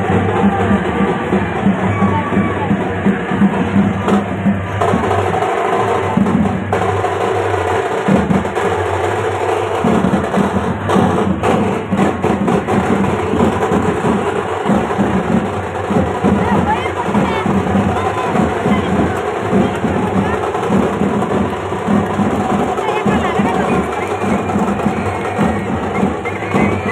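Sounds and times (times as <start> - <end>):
music with drums and percussion: 0.0 - 26.9.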